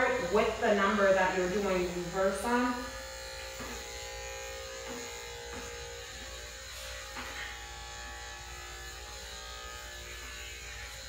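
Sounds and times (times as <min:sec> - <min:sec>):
electric pet clipper buzzing: 0:00.0 - 0:11.0.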